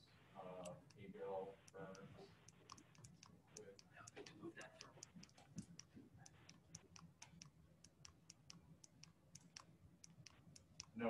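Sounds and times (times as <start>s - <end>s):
faint rapid clicking: 0.0s - 11.0s.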